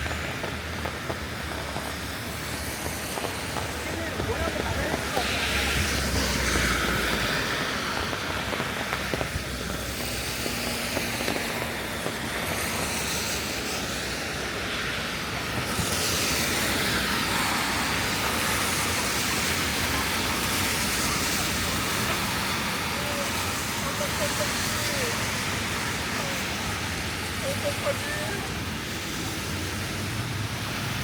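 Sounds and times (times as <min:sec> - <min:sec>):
rain hissing: 0:00.0 - 0:31.0
traffic on wet road: 0:00.0 - 0:31.0
vehicle passing: 0:00.0 - 0:31.0.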